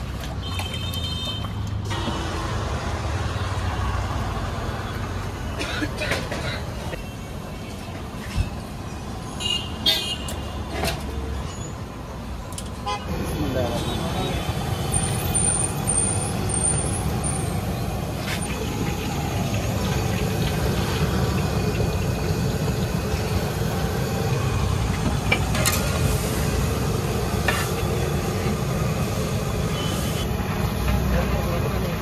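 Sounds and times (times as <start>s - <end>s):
road traffic rumble and hiss: 0.0s - 32.0s.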